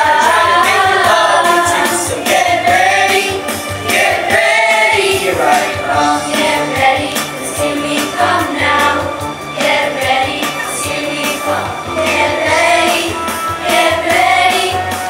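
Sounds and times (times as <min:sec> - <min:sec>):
accompaniment with bass and beat: 0:00.0 - 0:15.0
children's choir singing: 0:00.0 - 0:15.0.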